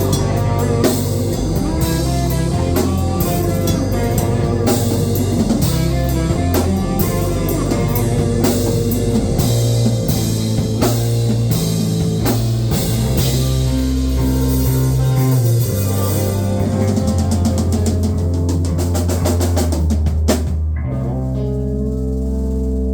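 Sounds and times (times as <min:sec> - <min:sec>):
rock band playing: 0:00.0 - 0:22.9.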